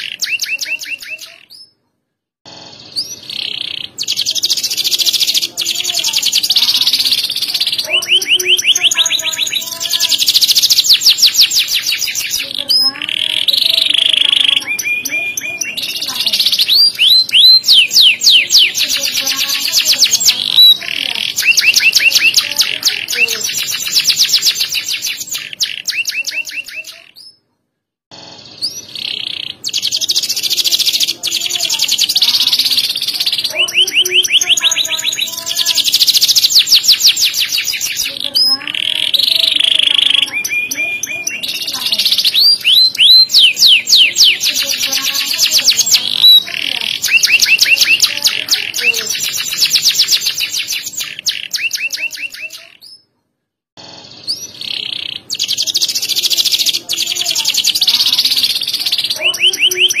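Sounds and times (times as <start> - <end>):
canary singing trills: 0.0 - 1.8, 2.5 - 27.5, 28.1 - 53.2, 53.8 - 60.0.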